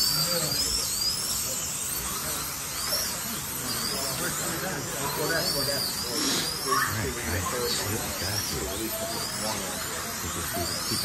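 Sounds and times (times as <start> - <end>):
slot car motors whining: 0.0 - 11.0.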